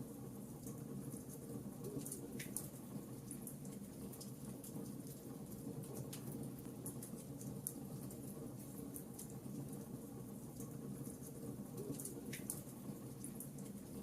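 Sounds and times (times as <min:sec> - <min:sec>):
fire crackling and popping: 0:00.4 - 0:14.0.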